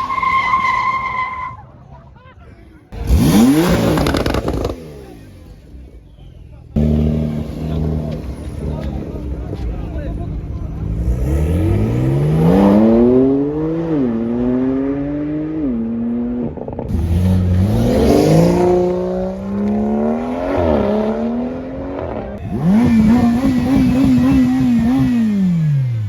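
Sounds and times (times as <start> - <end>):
car engines accelerating: 0.0 - 26.0.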